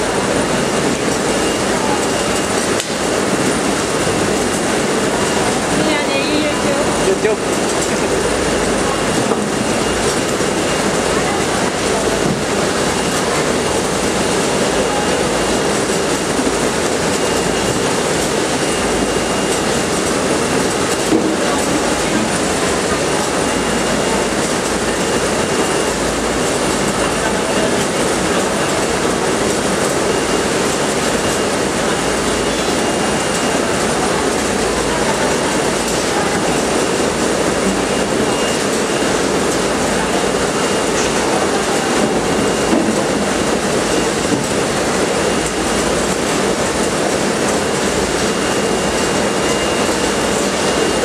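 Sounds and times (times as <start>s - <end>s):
conveyor rolling clatter and rumble: 0.0s - 51.0s.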